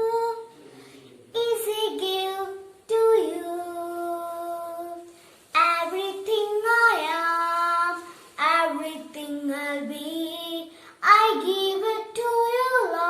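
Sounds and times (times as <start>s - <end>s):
child singing: 0.0s - 0.6s, 1.3s - 13.0s.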